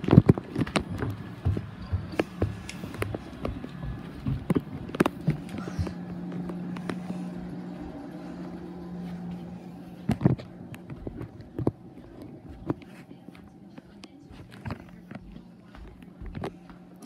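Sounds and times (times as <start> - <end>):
footsteps: 0.0 - 17.0
steady low hum: 0.0 - 17.0.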